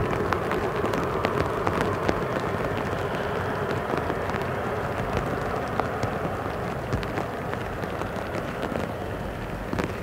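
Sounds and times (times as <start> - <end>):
jet engines roaring: 0.0 - 10.0
sharp crackling clicks: 0.0 - 10.0.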